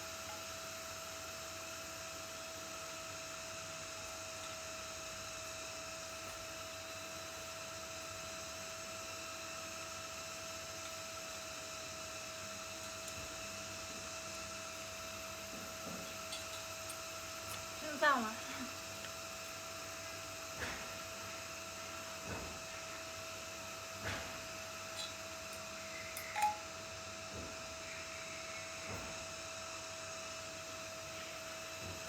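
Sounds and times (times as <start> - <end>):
high-pitched electrical hum: 0.0 - 32.0.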